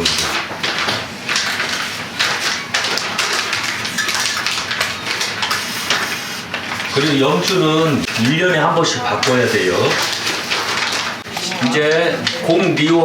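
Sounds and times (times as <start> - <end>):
prayer beads clicking and rustling: 0.0 - 13.0.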